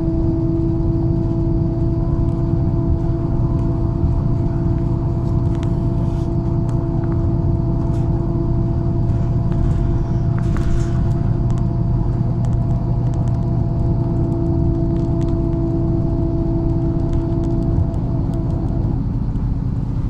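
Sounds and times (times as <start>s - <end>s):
bus engine running: 0.0s - 20.0s
body rattles and clicks: 1.1s - 20.0s.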